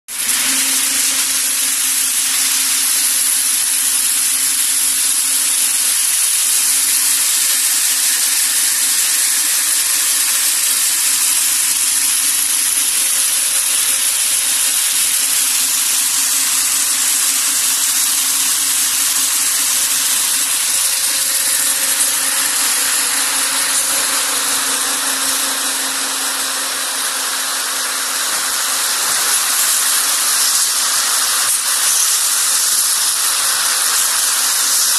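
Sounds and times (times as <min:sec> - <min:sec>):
machine rushing hiss: 0:00.1 - 0:34.9.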